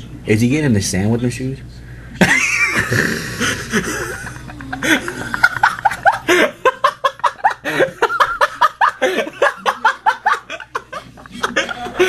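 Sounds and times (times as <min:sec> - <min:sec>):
people laughing hard: 0:02.2 - 0:12.0.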